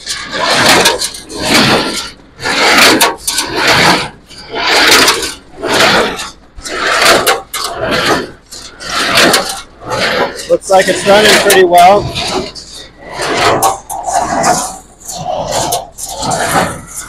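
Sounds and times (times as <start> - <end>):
baler rhythmic rasping clatter: 0.0 - 17.0.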